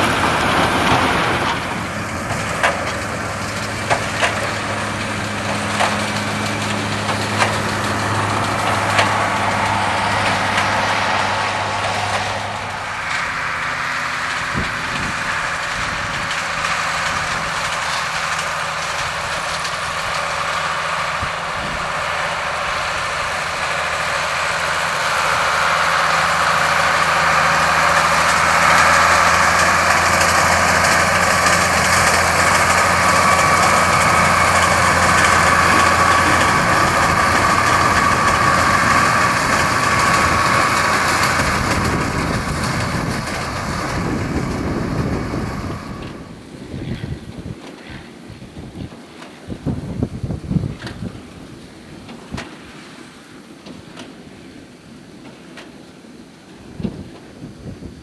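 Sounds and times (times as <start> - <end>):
baler machinery running: 0.0 - 48.0
tractor diesel engine under load: 0.0 - 58.0.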